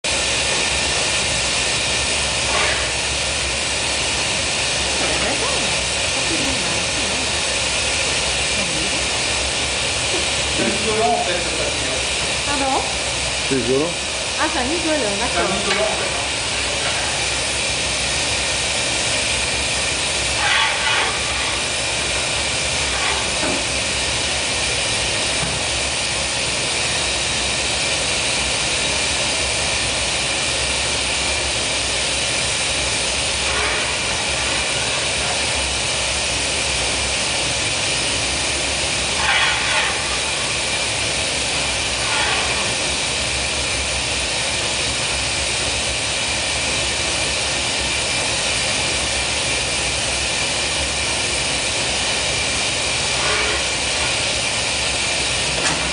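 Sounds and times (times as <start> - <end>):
furnace burner roaring: 0.0 - 55.9.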